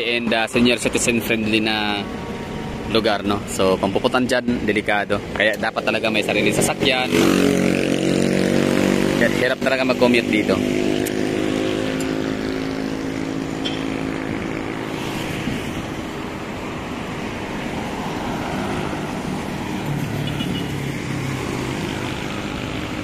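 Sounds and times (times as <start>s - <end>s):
traffic passing on highway: 0.0s - 23.0s
vehicle engine hum: 0.0s - 23.0s.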